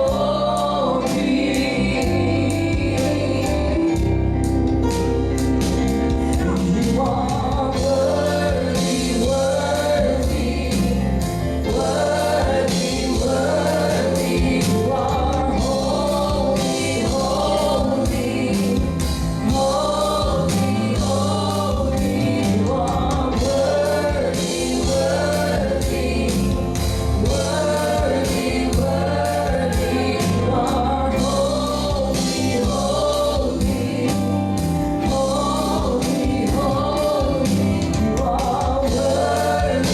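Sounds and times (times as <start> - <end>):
band with steady beat: 0.0 - 39.9
choir singing gospel song: 0.0 - 39.9.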